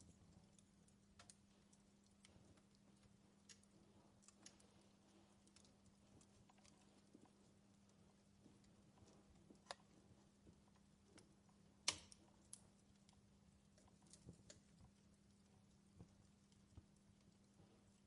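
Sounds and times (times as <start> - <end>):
faint steady hum: 0.0 - 18.0
wood fire crackling: 0.0 - 18.0.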